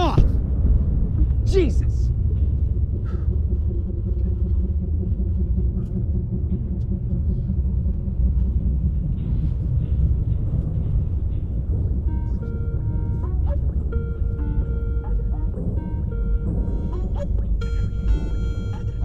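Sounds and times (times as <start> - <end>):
deep low rumble: 0.0 - 19.0
faint hum: 2.1 - 19.0.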